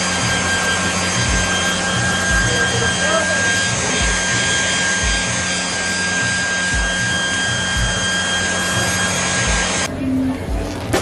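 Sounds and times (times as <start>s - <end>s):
hair dryer running: 0.0s - 9.9s.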